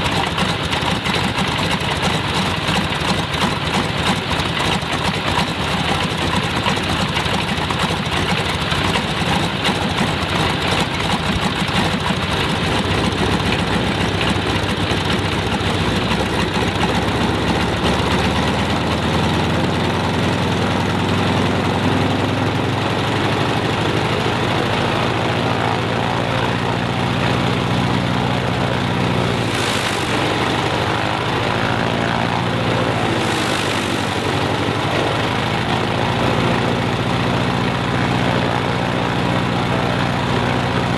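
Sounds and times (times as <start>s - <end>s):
radial aircraft engine running: 0.0s - 40.9s.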